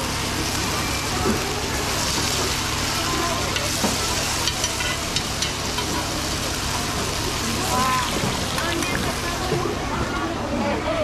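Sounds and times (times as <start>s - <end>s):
food sizzling in hot oil: 0.0s - 9.5s.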